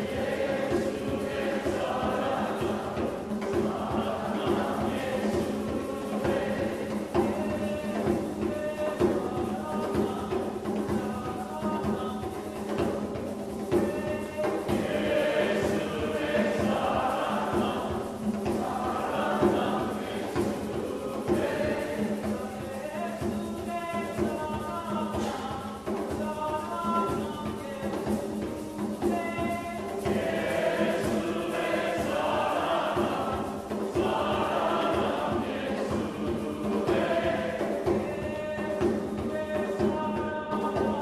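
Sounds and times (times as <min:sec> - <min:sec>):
group singing a hymn: 0:00.0 - 0:41.0.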